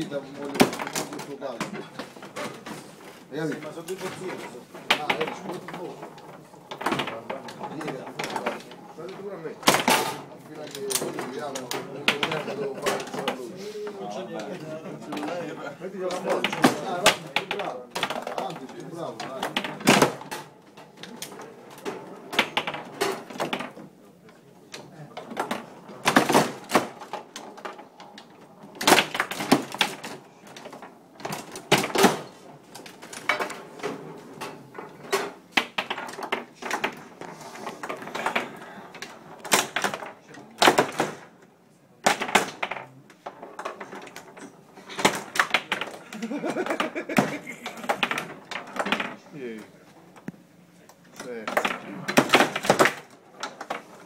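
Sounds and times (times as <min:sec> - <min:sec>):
foosball clacks and knocks: 0:00.0 - 0:54.0.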